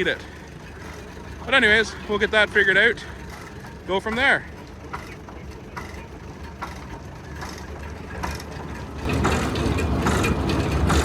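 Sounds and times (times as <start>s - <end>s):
manure spreader clatter: 0.0s - 11.0s
old tractor engine running: 0.0s - 11.0s.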